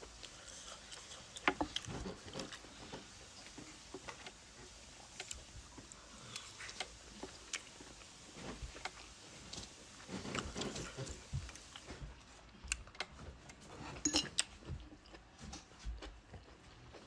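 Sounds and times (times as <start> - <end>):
chewing and smacking: 0.0 - 17.0.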